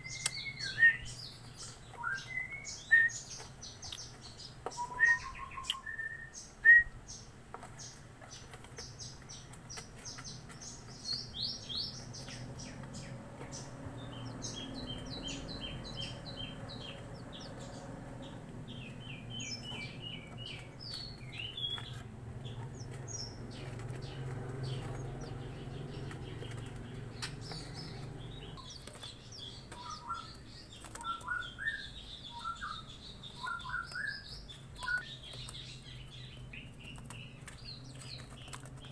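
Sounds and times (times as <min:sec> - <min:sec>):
young birds chirping: 0:00.0 - 0:38.9.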